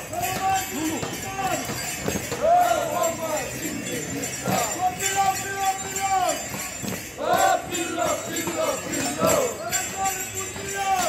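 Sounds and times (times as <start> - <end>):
bells jingling: 0.0 - 11.0
group shouting a rhythmic chant: 0.0 - 11.0.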